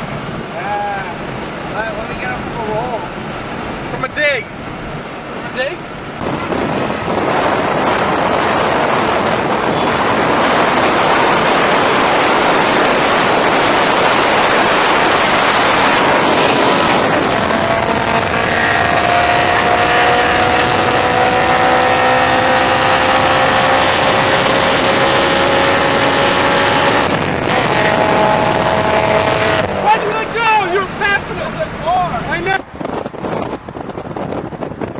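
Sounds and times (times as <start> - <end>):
car engine revving: 0.0 - 34.9
wind and road noise: 0.0 - 34.9.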